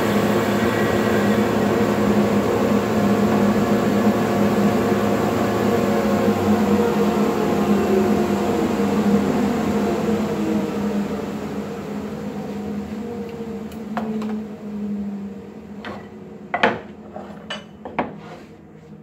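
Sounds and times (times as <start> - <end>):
woodworking machinery hum: 0.0 - 19.0.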